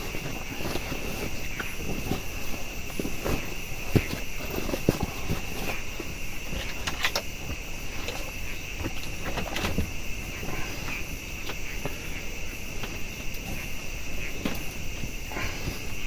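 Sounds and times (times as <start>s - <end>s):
crickets chirping: 0.0s - 16.0s
knocks and rustles: 0.0s - 16.0s.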